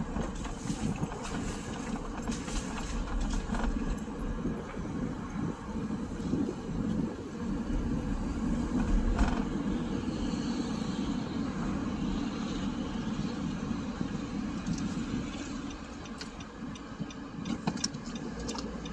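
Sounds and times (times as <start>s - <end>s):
car interior road noise: 0.0s - 18.9s.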